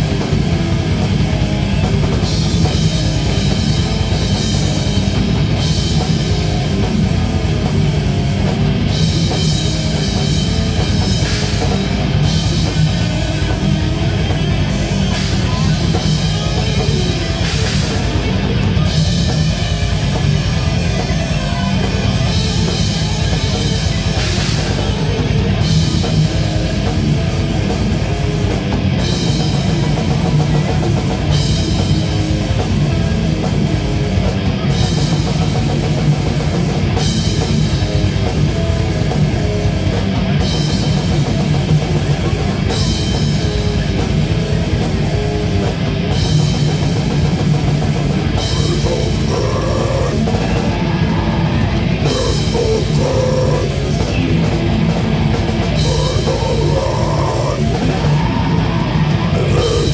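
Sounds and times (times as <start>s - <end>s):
bass guitar: 0.0s - 59.9s
distorted electric guitars: 0.0s - 59.9s
drum kit with cymbals: 0.0s - 59.9s.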